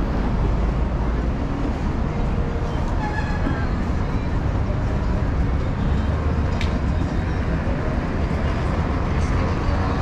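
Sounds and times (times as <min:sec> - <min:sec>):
general street noise: 0:00.0 - 0:10.0
road traffic rumble: 0:00.0 - 0:10.0.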